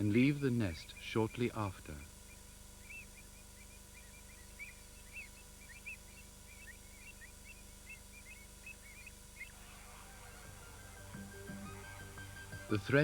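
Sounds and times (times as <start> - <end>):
faint steady hum: 0.0 - 13.0
flock of birds calling: 0.9 - 13.0.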